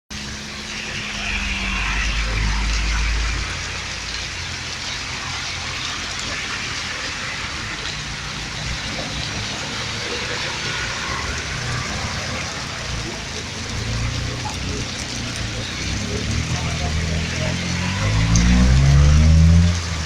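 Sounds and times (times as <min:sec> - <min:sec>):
steady rain falling: 0:00.1 - 0:20.0
low rumble: 0:00.2 - 0:20.0.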